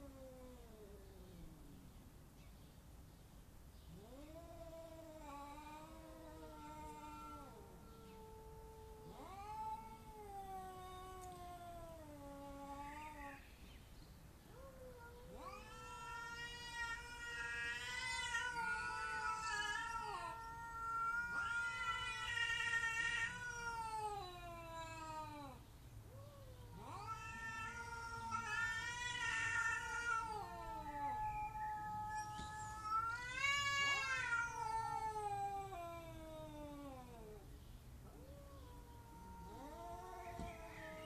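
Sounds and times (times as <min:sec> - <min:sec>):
cats caterwauling: 0:00.0 - 0:01.8, 0:03.9 - 0:13.5, 0:14.5 - 0:41.0.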